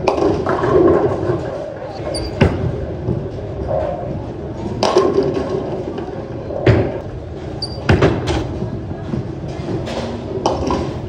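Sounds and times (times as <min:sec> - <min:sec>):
bowling ball rolling: 0:00.0 - 0:11.0.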